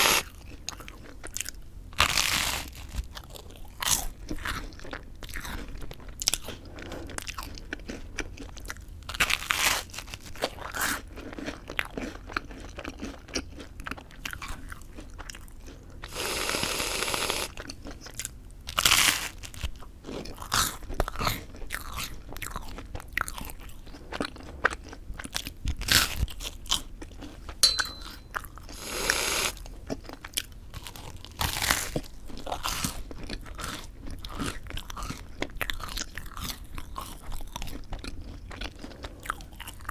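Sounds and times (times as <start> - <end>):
chewing: 0.2 - 1.6, 2.7 - 39.9.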